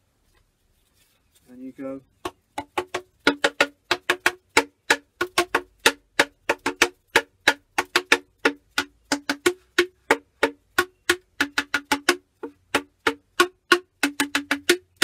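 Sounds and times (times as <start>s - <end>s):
cardboard tubes slapped pops: 2.2s - 15.0s.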